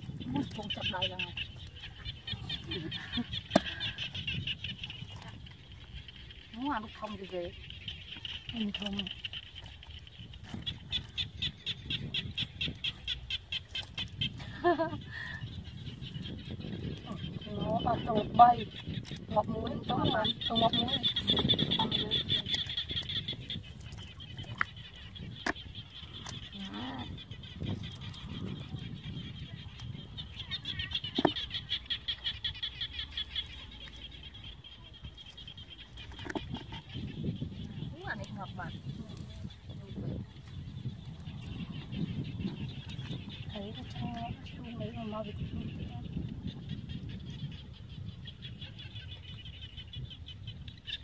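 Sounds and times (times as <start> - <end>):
muddy handling noise: 0.0 - 46.0
chorus of small calling animals: 0.0 - 51.0.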